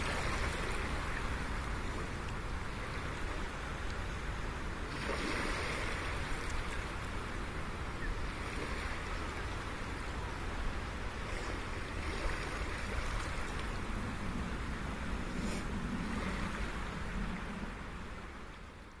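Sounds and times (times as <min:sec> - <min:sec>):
sea waves washing on shore: 0:00.0 - 0:18.9.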